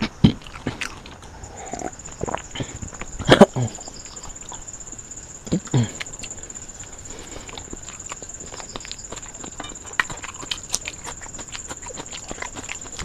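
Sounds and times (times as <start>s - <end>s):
chewing and lip-smacking: 0.0s - 13.0s
faint high-pitched whine: 0.0s - 13.0s.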